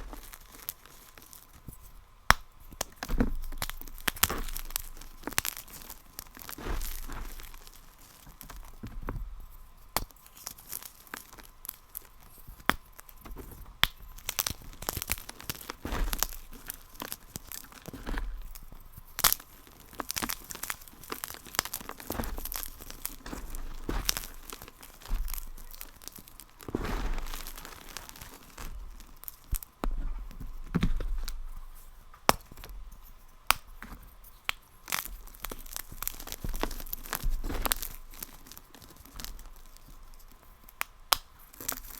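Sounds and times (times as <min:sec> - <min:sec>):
brittle material crunching: 0:00.0 - 0:41.9.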